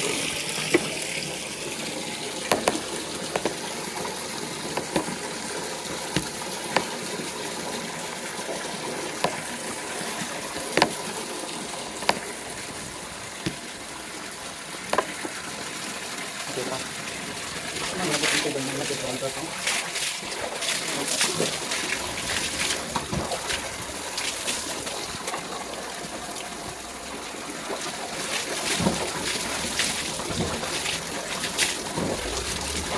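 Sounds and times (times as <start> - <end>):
water running and splashing: 0.0 - 32.9.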